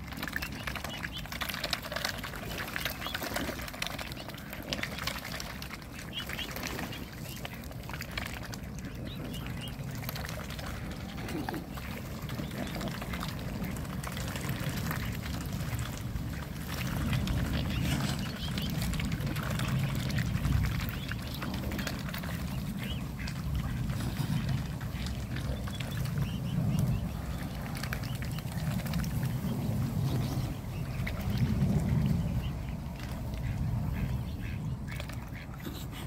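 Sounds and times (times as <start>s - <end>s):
small water splashes: 0.0s - 36.0s
swans dabbling bills: 0.0s - 36.0s
low rumble: 3.6s - 35.6s.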